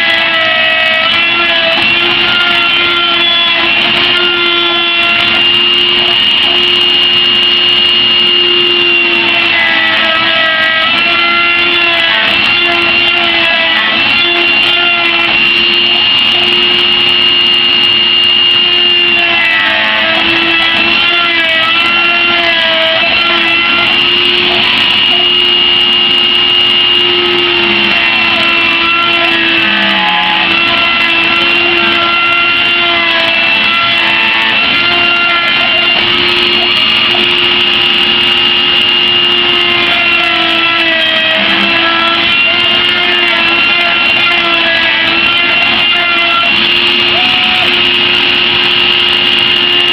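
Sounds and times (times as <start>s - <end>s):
router spindle whine: 0.0s - 49.9s
stepper motor tones: 0.0s - 49.9s.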